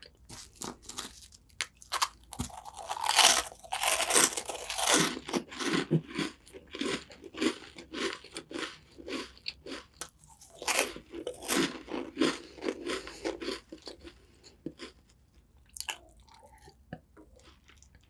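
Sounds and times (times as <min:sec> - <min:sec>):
crunchy snack chewing: 0:00.0 - 0:18.0.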